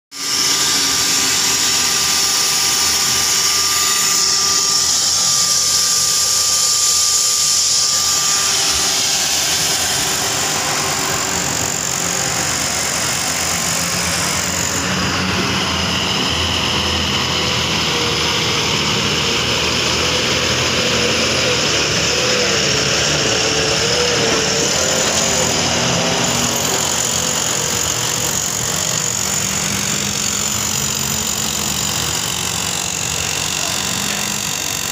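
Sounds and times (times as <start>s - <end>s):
construction machinery engine drone: 0.2s - 34.9s.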